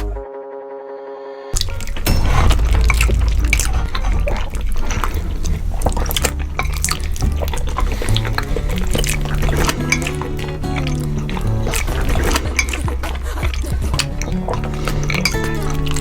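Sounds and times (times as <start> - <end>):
low bass line: 1.6 - 16.0
wet mouth smacks and slurps: 1.6 - 16.0.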